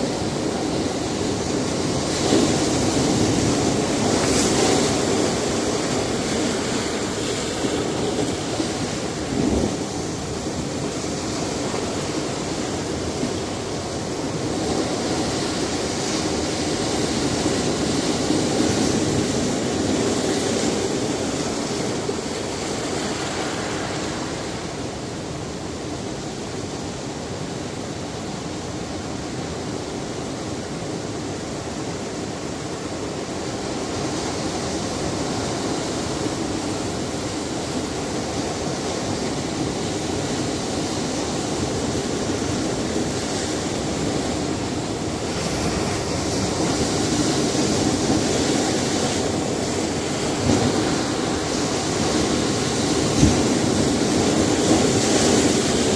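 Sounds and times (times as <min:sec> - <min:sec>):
waves on rocky shore: 0:00.0 - 0:55.9.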